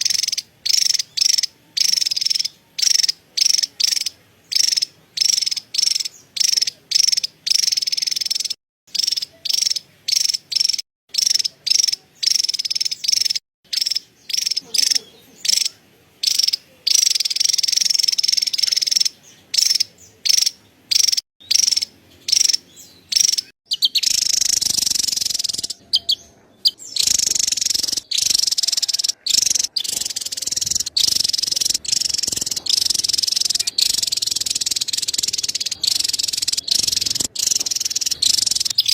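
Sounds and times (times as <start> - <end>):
background noise: 0.0 - 38.9
bird chattering: 0.0 - 38.9.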